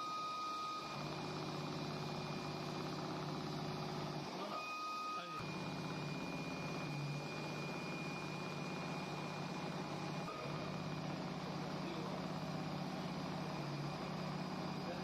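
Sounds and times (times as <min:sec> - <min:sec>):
sewing machine running: 0:01.0 - 0:04.4, 0:05.4 - 0:15.0.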